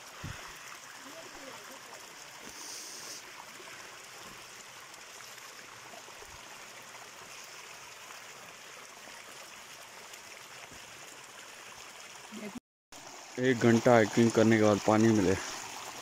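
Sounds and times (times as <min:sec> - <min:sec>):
stream trickling over rocks: 0:00.0 - 0:16.0.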